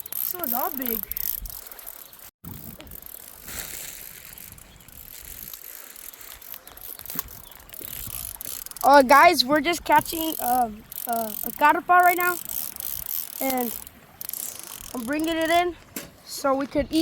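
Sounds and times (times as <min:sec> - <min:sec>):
fishing reel clicking: 0:00.0 - 0:15.8.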